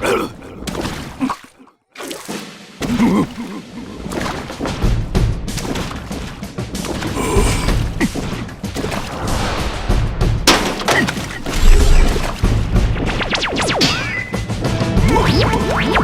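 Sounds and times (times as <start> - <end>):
background music: 2.4 - 16.0.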